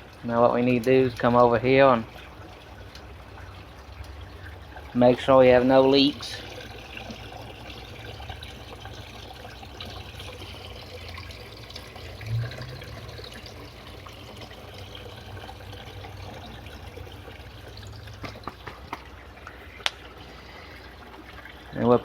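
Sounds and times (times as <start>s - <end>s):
low steady hum: 0.0s - 22.0s
water trickling into tank: 0.0s - 22.0s.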